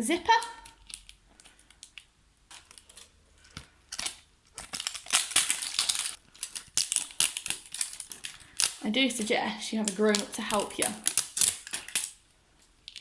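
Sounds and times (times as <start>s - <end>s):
dense crackling: 0.0s - 12.2s
plastic wrapping crinkling and tearing: 0.2s - 13.0s.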